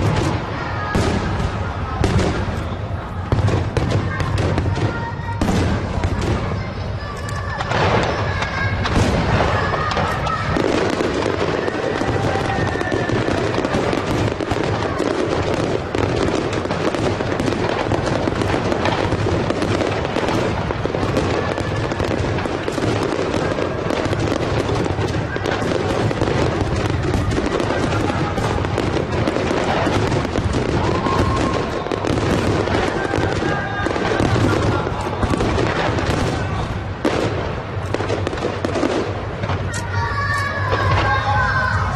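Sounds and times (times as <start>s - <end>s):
fireworks crackling: 0.0s - 41.9s.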